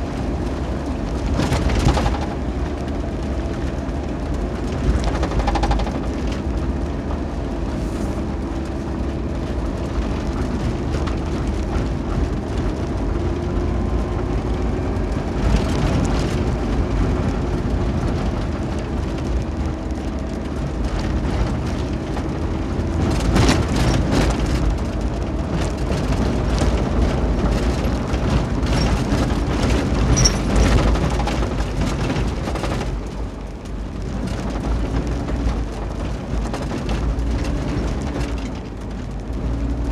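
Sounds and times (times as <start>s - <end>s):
car engine hum: 0.0s - 39.9s
clatter of bumps and stones: 0.0s - 39.9s
tyres rumbling on gravel: 0.0s - 39.9s.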